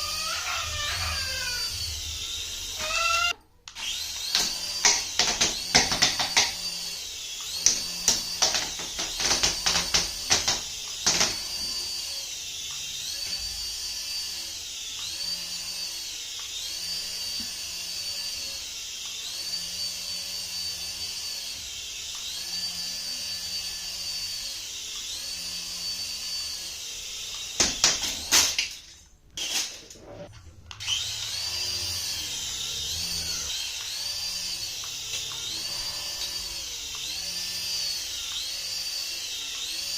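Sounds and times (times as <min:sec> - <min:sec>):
toy electric motor whining: 0:00.0 - 0:39.9.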